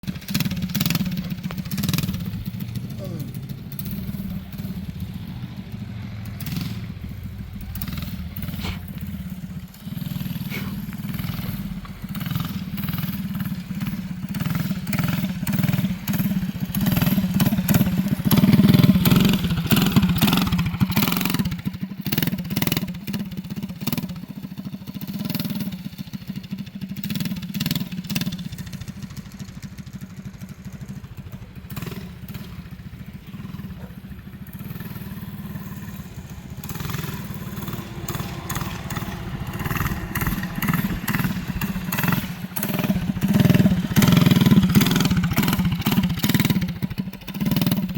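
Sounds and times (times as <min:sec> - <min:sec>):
mini bike engine running: 0:00.0 - 0:47.9.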